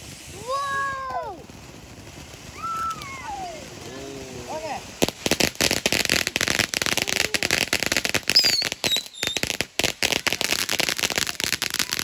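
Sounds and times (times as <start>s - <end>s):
firework whistles: 0.0s - 3.8s, 5.0s - 12.0s
fireworks cracking and popping: 0.0s - 12.0s.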